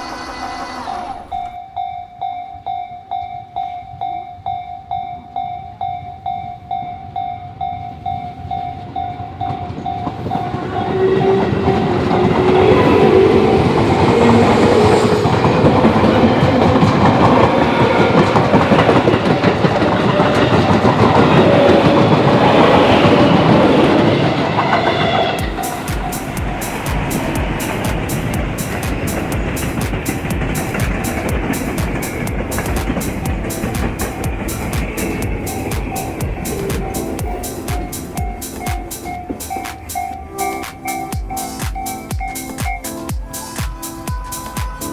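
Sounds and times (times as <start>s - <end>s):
level crossing warning bell: 0.0s - 22.6s, 25.4s - 43.1s
electric train passing: 0.0s - 44.9s
train wheels clattering on rails: 8.6s - 44.9s.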